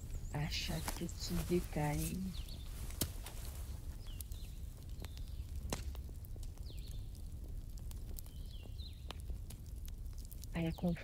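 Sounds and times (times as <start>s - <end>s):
campfire crackling and popping: 0.0s - 11.0s
low rumble of flames: 0.0s - 11.0s.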